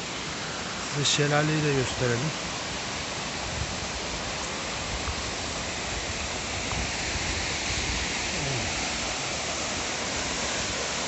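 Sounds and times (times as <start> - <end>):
waterfall and stream rushing: 0.0 - 11.0.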